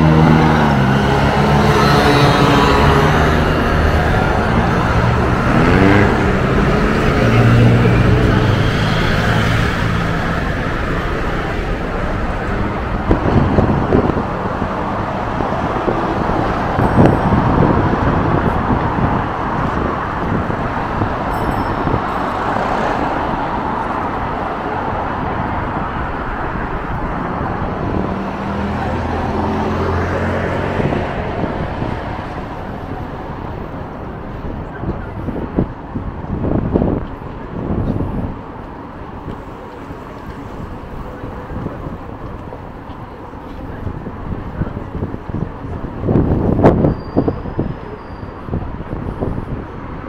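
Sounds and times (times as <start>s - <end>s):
street traffic road noise: 0.0s - 50.0s.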